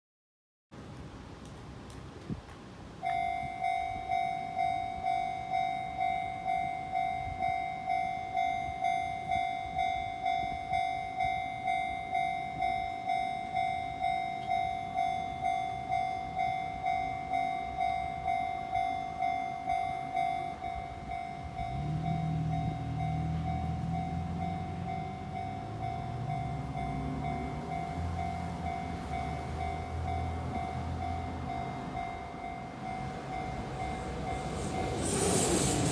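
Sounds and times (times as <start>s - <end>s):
level-crossing warning bell clanging: 3.0s - 35.9s.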